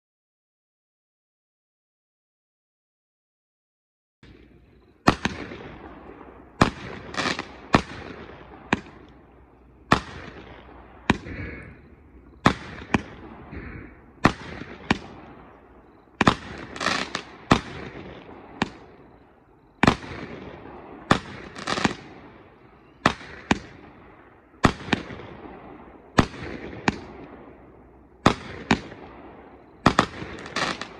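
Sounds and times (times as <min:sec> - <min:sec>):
fireworks cake firing sharp reports: 0:04.2 - 0:27.6, 0:28.2 - 0:30.9.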